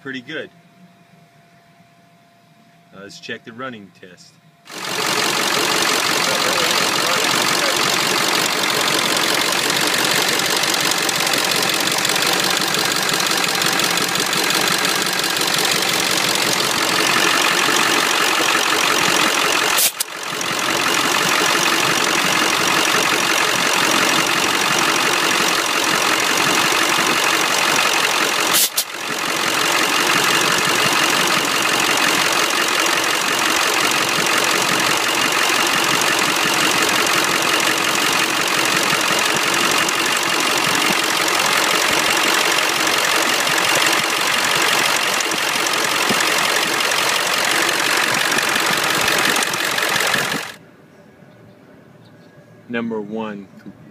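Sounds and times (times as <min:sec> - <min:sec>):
diesel engine idling rough: 0:04.7 - 0:50.6.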